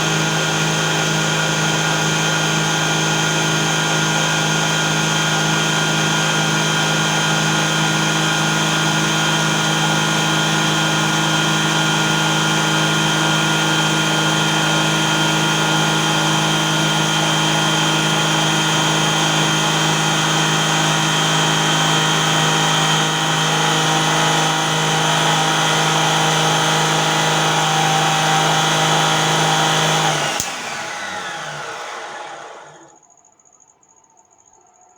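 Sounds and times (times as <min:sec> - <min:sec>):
table saw whining: 0:00.0 - 0:33.0.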